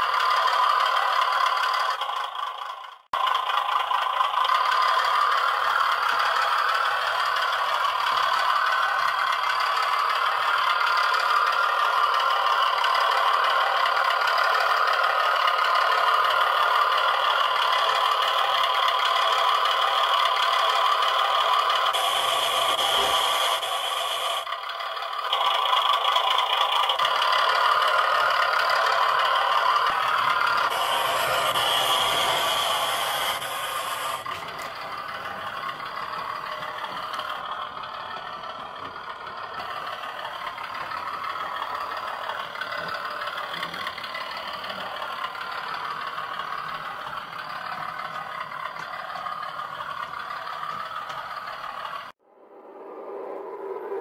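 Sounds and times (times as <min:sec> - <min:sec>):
model locomotive engine rattle: 0:00.0 - 0:52.2.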